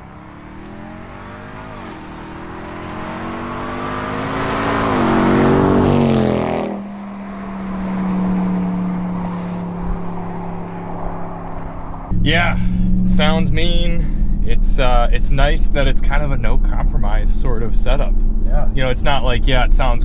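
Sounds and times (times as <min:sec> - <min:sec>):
engine accelerating past: 0:00.0 - 0:16.0.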